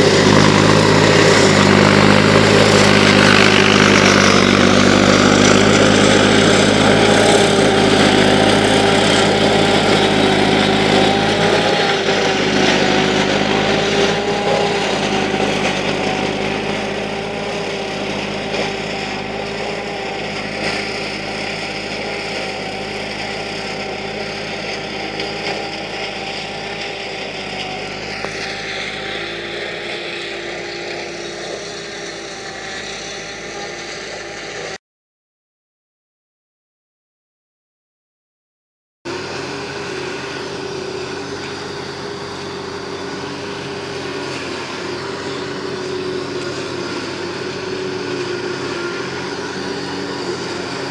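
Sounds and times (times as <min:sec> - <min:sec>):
tractor and harvester drone: 0:00.0 - 0:34.8, 0:39.1 - 0:50.9.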